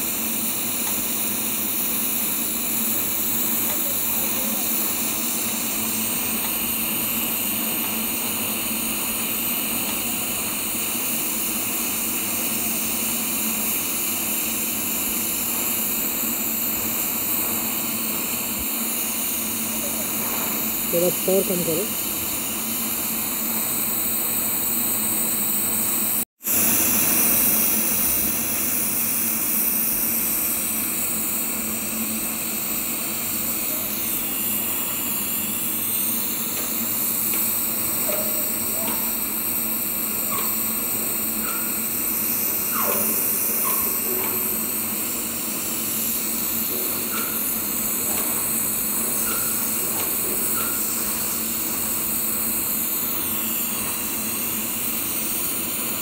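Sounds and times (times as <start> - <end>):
welding arc hissing: 0.0 - 56.0.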